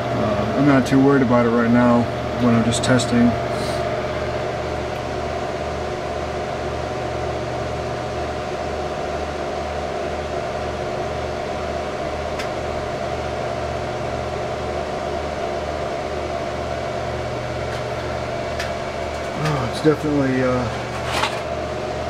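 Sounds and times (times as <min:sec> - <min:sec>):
computer fans whirring: 0:00.0 - 0:22.0
pulsing low hum: 0:00.0 - 0:22.0.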